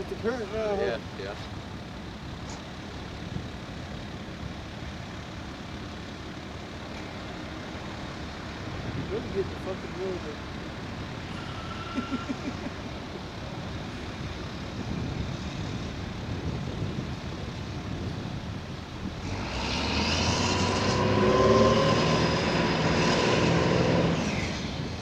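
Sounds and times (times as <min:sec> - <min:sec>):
boat diesel engine running: 0:00.0 - 0:25.0.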